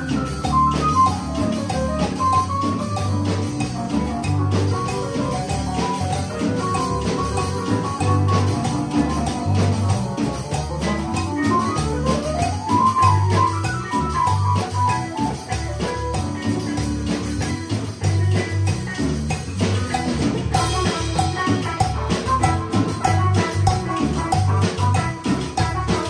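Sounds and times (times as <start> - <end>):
drum kit beat: 0.0 - 26.0
electric bass: 0.0 - 26.0
electric guitar: 0.0 - 26.0
electric keyboard: 0.0 - 26.0.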